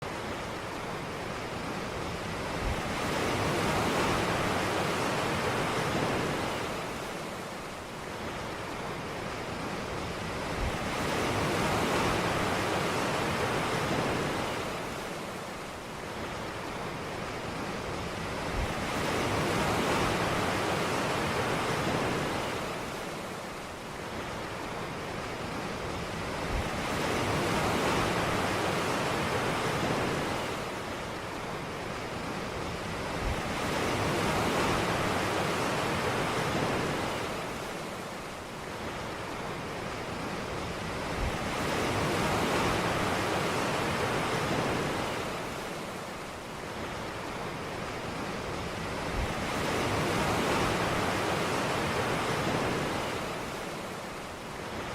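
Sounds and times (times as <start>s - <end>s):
waves washing on beach: 0.0s - 54.9s.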